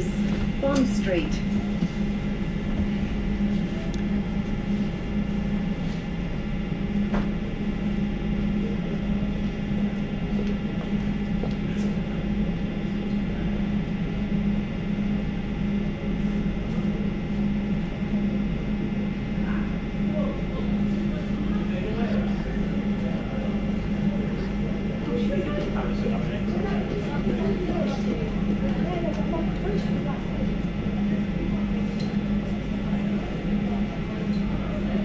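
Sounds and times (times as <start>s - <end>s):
train carriage electrical hum: 0.0s - 35.0s.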